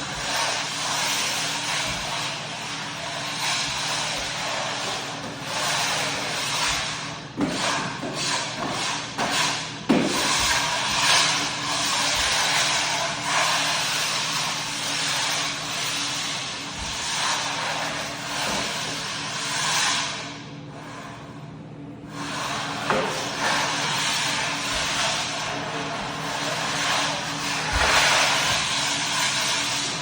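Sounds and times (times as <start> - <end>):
floor buffer motor hum: 0.0 - 30.0.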